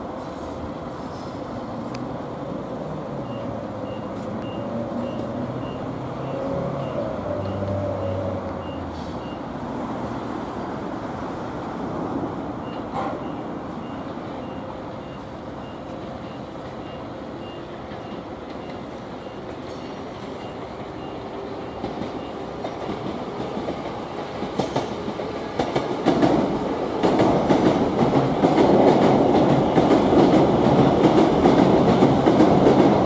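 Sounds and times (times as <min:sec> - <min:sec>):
electric train hum: 0:00.0 - 0:33.0.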